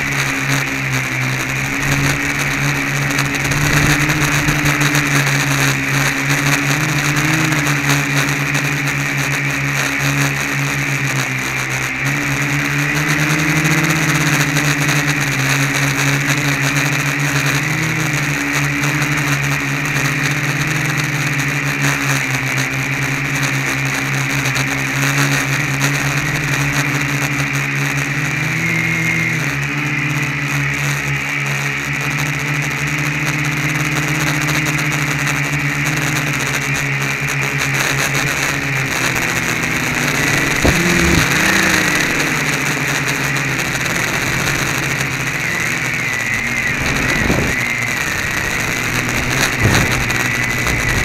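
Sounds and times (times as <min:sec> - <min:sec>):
quadcopter buzzing hum: 0:00.0 - 0:27.4, 0:37.4 - 0:51.0.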